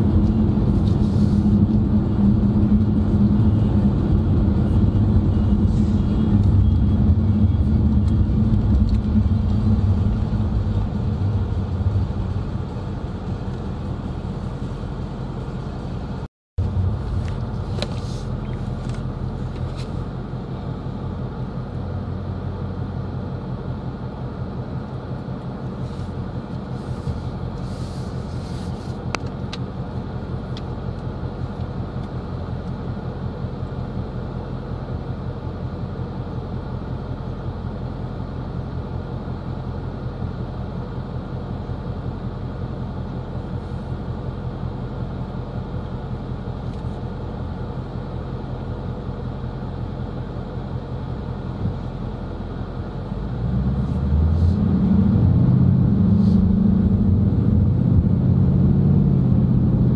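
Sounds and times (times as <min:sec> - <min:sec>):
road and engine rumble in car: 0:00.0 - 0:59.9.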